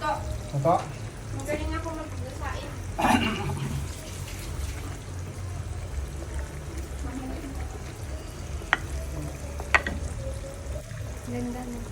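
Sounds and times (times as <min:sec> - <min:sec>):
meat sizzling in a pan: 0:00.0 - 0:11.9.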